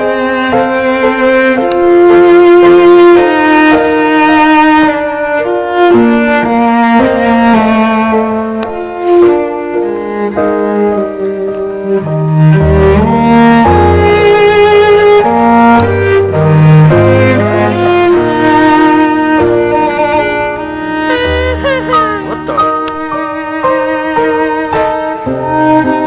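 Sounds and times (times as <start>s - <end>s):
sad string music: 0.0s - 26.0s.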